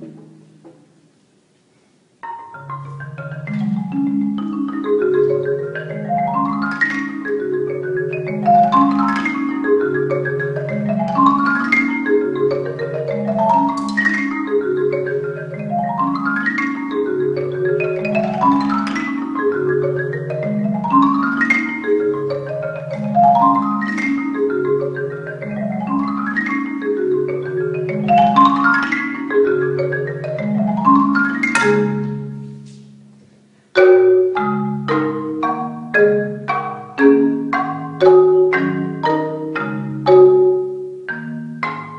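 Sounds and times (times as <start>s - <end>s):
tuned mallet percussion playing: 2.2s - 41.9s.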